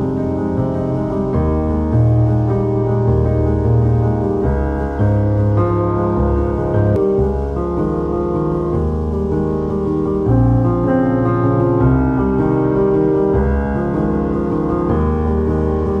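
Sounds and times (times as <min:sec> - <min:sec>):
soft piano and keyboard music: 0:00.0 - 0:16.0.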